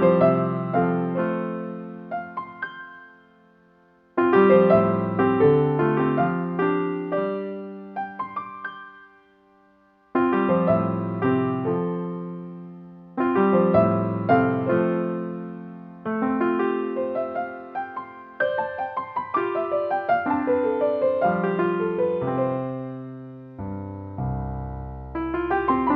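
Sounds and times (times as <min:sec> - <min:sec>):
upbeat piano tune: 0:00.0 - 0:25.9.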